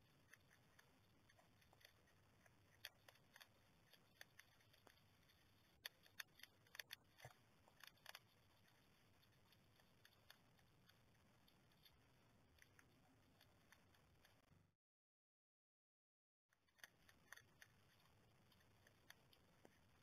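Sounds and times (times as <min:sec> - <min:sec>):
hedgehogs crunching food: 0:00.0 - 0:14.5, 0:16.6 - 0:20.0.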